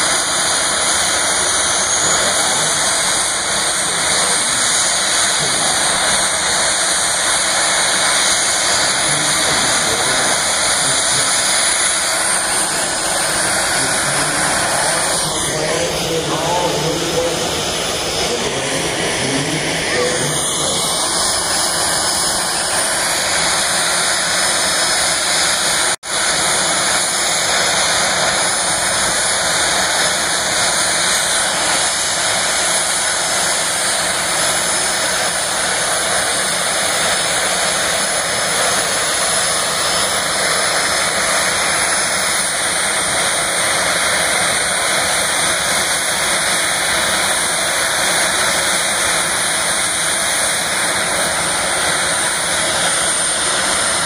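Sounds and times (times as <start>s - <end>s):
jet engines rushing and whining: 0.0s - 54.0s.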